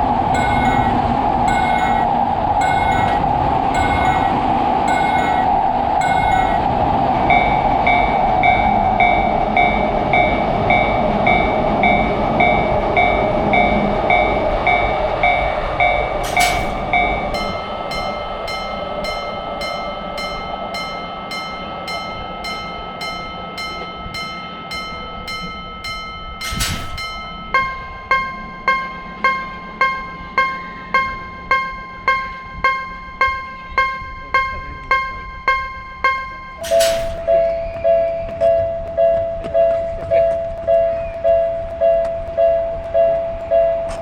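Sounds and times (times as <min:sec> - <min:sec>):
level crossing bell clanging: 0:00.0 - 0:44.0
train passing: 0:00.0 - 0:44.0.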